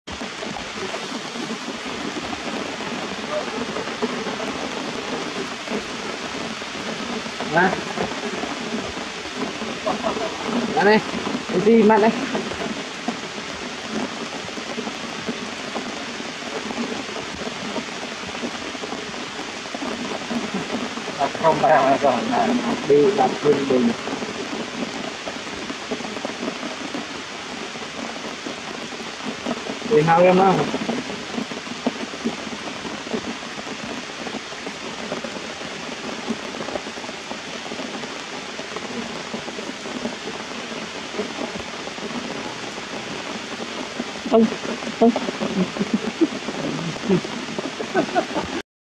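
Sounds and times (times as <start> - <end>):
rain falling on leaves and rocks: 0.1 - 48.6.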